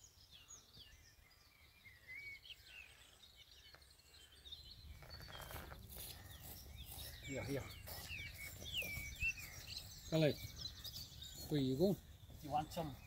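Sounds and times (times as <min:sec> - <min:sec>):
birdsong chirps and whistles: 0:00.0 - 0:13.0.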